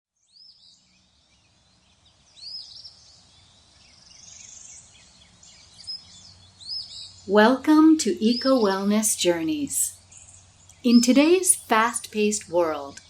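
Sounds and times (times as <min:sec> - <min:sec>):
songbirds chirping: 0:00.2 - 0:13.0.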